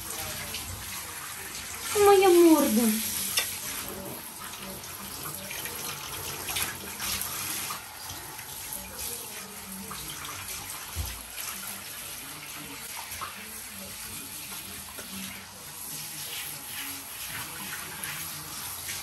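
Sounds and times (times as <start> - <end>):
shower water spraying: 0.0 - 19.0.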